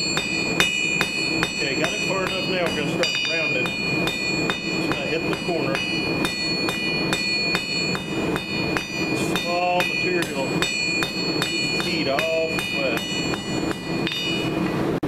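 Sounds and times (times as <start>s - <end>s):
hammer striking steel on anvil: 0.0s - 14.8s
anvil ringing: 0.0s - 14.9s.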